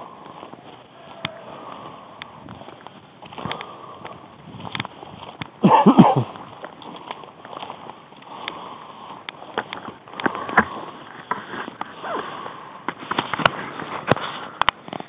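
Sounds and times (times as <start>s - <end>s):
footsteps through dry grass: 0.0s - 15.0s
twigs snapping: 0.2s - 5.6s, 6.2s - 15.0s.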